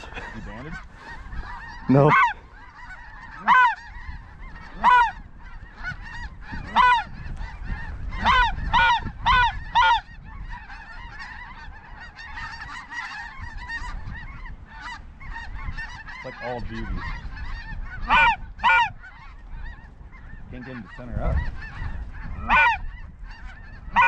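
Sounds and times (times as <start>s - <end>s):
distant geese chattering: 0.0s - 24.0s
loud close goose honks: 0.0s - 24.0s.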